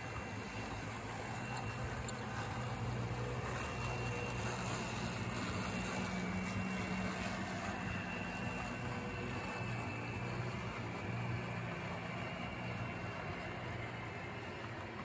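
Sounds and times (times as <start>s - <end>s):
low motor hum: 0.0s - 15.0s
model train wheels rumbling on rail: 0.0s - 15.0s.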